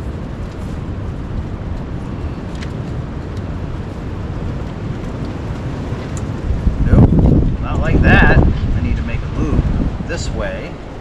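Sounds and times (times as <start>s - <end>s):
low wind rumble on microphone: 0.0s - 11.0s.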